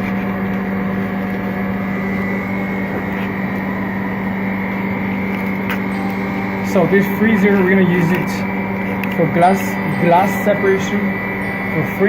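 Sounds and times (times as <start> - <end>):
refrigeration unit humming: 0.0 - 12.0.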